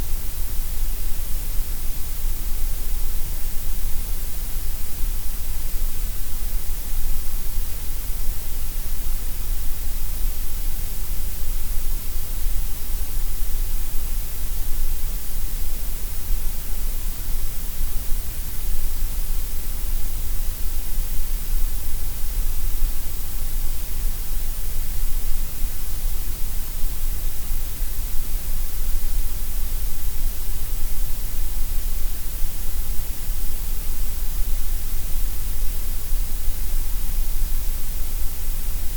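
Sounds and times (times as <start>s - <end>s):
gray noise hiss: 0.0s - 38.9s.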